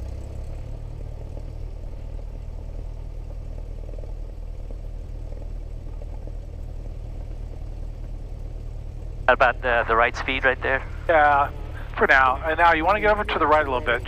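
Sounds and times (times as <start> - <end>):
propeller aircraft engine hum: 0.0 - 14.0.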